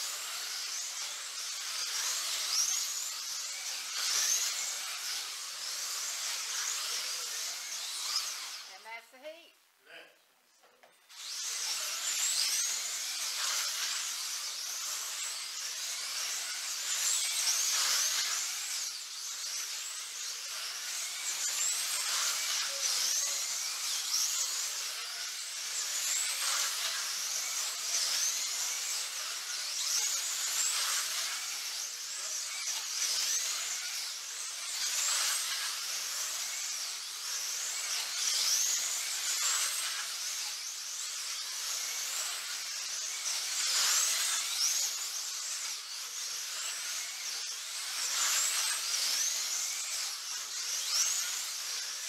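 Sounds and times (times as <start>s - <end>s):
slot car motors whining: 0.0s - 8.8s, 11.1s - 52.0s.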